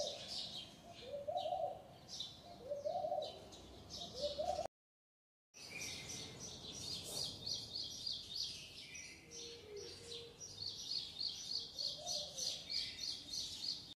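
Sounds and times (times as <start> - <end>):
birds chirping: 0.0 - 4.7, 5.6 - 14.0.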